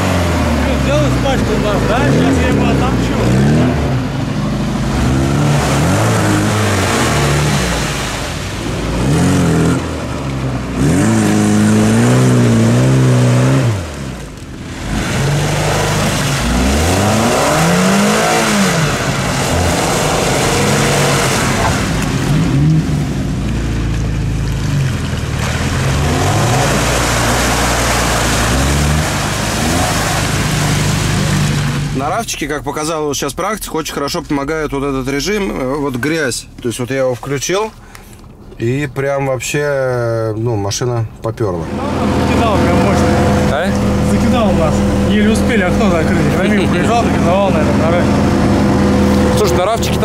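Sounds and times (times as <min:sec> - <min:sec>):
car engine revving hard: 0:00.0 - 0:32.1, 0:41.6 - 0:50.0.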